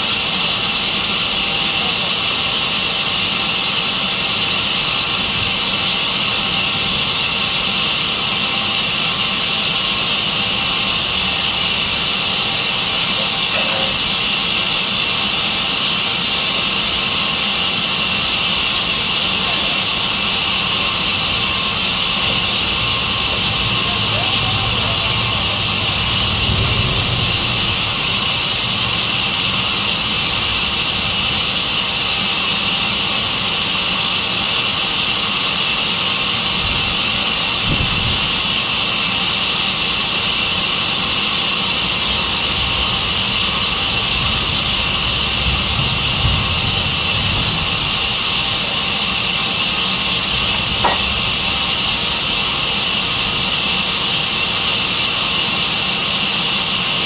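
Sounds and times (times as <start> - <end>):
sawmill saw hissing: 0.0 - 57.0.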